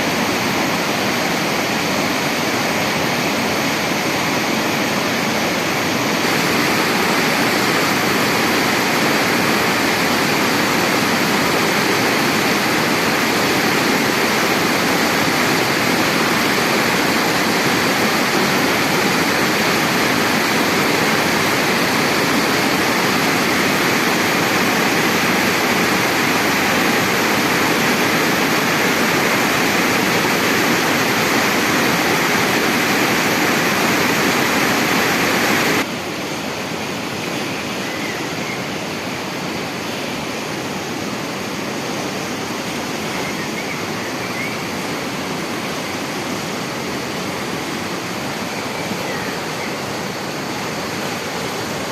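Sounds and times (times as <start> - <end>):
rushing water: 0.0 - 51.9.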